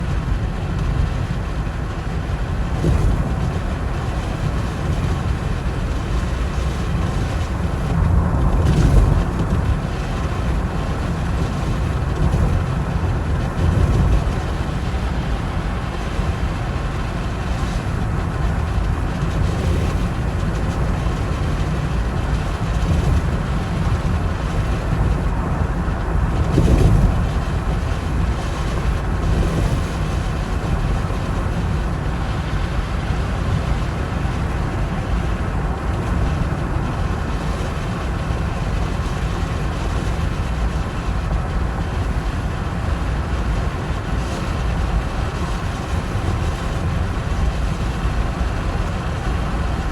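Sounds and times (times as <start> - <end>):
car engine and tyres rumbling: 0.0 - 49.9.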